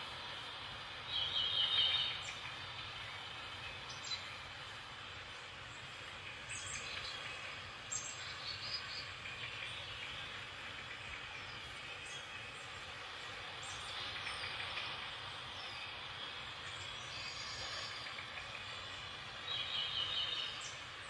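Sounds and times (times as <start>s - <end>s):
birds trilling and chirping: 0.0s - 21.0s
steady hiss: 0.0s - 21.0s.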